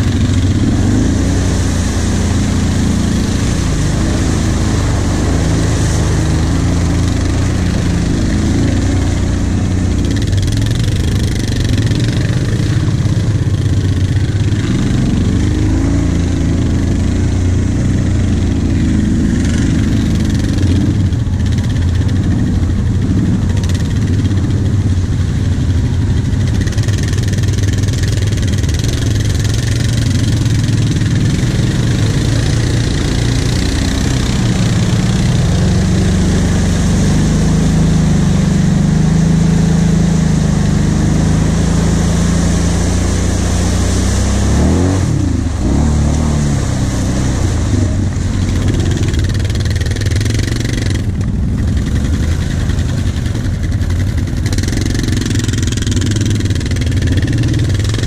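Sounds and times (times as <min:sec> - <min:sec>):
atv engine running under load: 0:00.0 - 0:58.0
tyres splashing through mud: 0:00.0 - 0:58.0.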